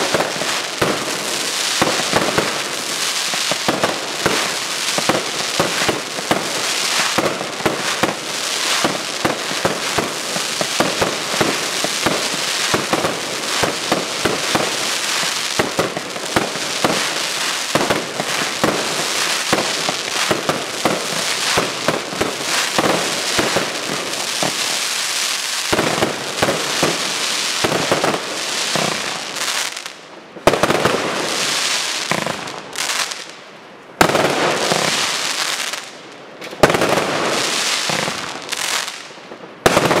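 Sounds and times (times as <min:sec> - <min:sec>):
crackling firework stars: 0:00.0 - 0:40.0.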